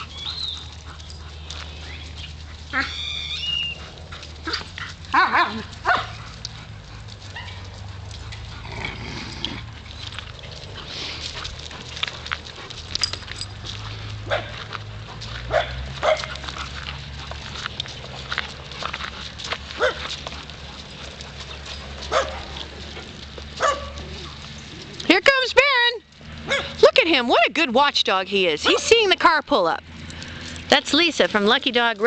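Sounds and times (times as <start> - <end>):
dogs barking and yipping: 0.0 - 29.3.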